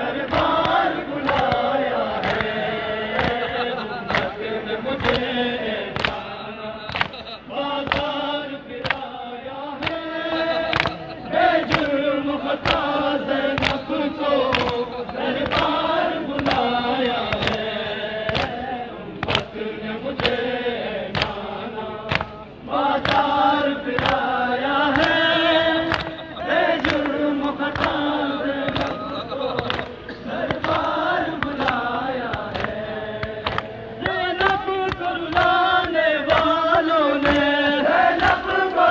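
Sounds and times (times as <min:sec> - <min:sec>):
men chanting together: 0:00.0 - 0:38.9
rhythmic chest-beating strikes: 0:00.0 - 0:38.9.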